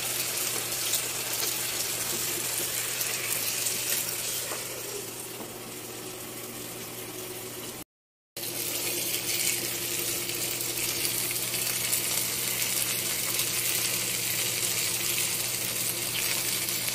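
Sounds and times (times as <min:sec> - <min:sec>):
chicken sizzling in a grill pan: 0:00.0 - 0:07.8, 0:08.4 - 0:16.9.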